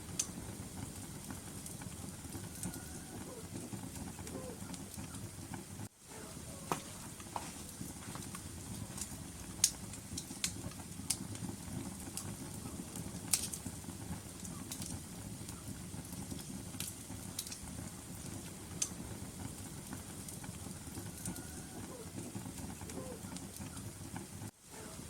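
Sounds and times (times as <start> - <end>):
wood crackling and popping: 0.0 - 24.9
fire flames rumbling: 0.0 - 25.0.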